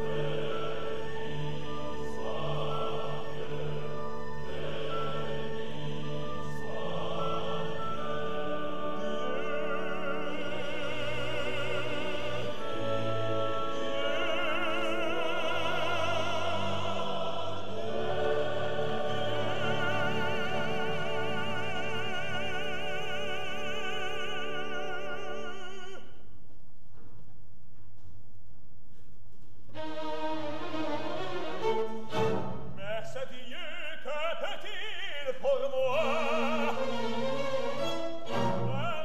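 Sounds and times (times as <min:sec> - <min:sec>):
orchestral strings: 0:00.0 - 0:26.0, 0:29.7 - 0:39.0
operatic singing: 0:00.0 - 0:26.2, 0:29.8 - 0:39.0.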